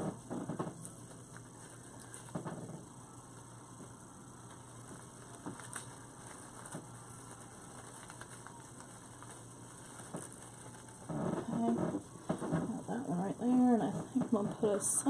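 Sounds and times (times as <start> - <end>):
artificial flower stems rustling: 0.0 - 15.0
low steady hum: 0.0 - 15.0.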